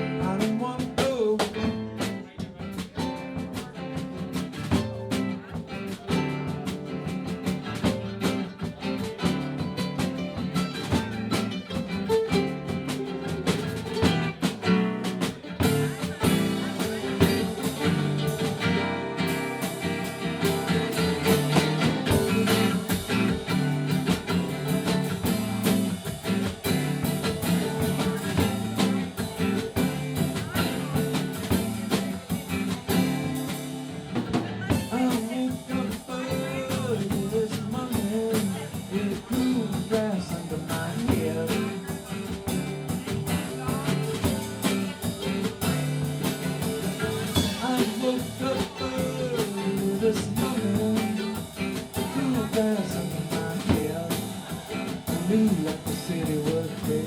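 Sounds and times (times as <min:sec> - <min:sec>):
drum kit beat: 0:00.0 - 0:57.0
electric guitars: 0:00.0 - 0:57.0.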